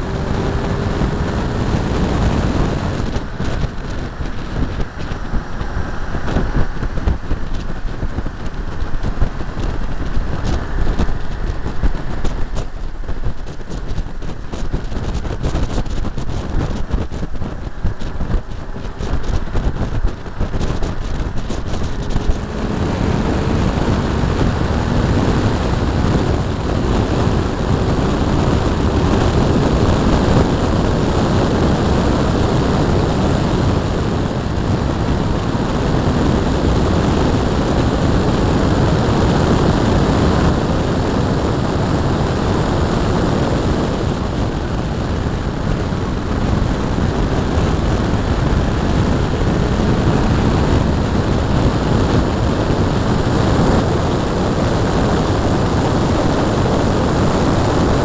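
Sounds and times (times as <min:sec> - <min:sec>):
car engine drone: 0:00.0 - 0:58.0
road noise: 0:00.0 - 0:58.0
wind on microphone: 0:00.0 - 0:58.0.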